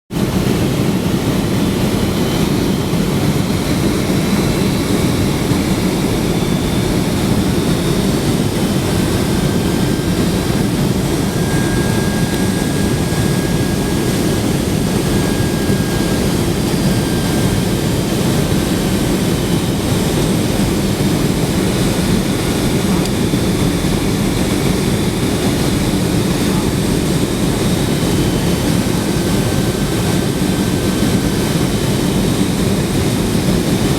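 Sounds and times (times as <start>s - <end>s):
jet engines and rushing air: 0.1s - 33.9s.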